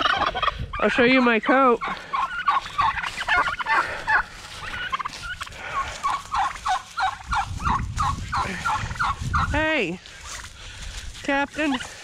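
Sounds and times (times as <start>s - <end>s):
turkeys gobbling: 0.0s - 9.6s, 10.2s - 10.6s, 11.5s - 12.0s.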